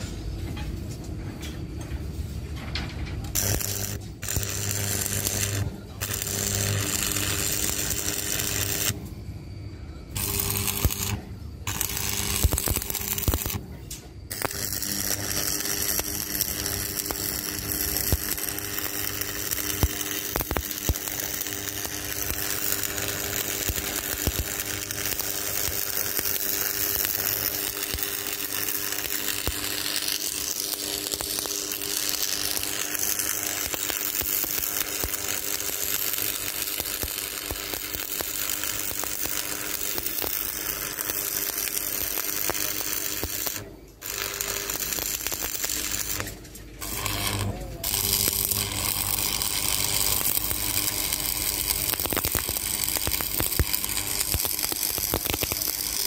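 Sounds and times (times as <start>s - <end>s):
faint hum: 0.0s - 56.0s
welding arc crackling hiss: 3.2s - 9.1s, 10.1s - 56.0s.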